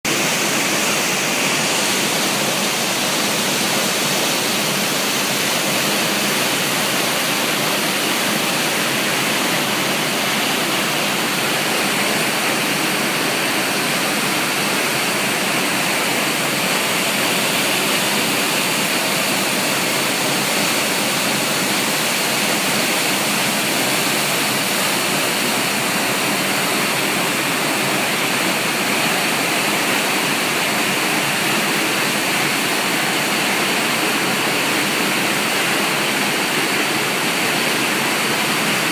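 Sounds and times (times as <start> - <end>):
rushing river water: 0.1 - 38.9.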